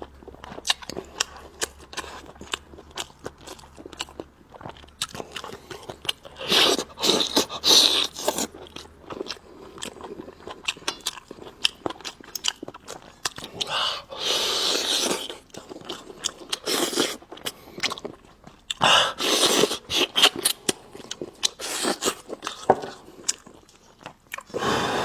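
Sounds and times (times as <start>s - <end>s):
biting and chewing crunches: 0.0s - 24.6s.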